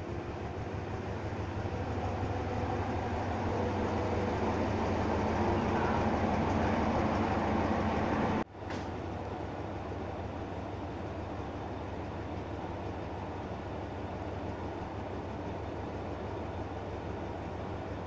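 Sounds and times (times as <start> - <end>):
diesel locomotive engine droning: 0.0 - 18.0.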